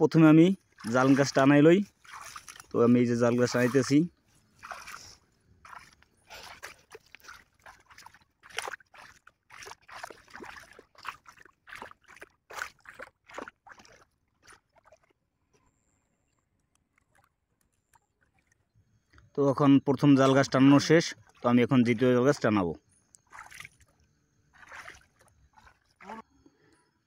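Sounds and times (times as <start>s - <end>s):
pond water splashing: 0.1s - 15.6s, 16.6s - 19.2s, 19.9s - 26.3s.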